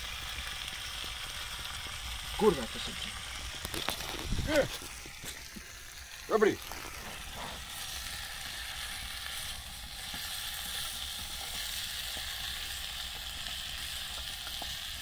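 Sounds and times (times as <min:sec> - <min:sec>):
fire crackling: 0:00.0 - 0:15.0
food sizzling in a cauldron: 0:00.0 - 0:15.0.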